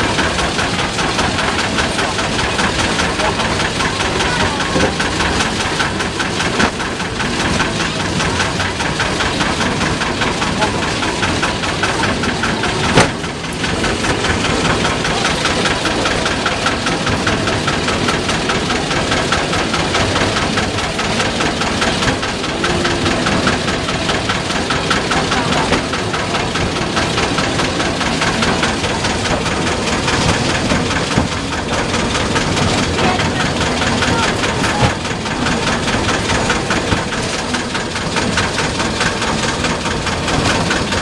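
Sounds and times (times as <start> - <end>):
train rattling along track: 0.0 - 41.0.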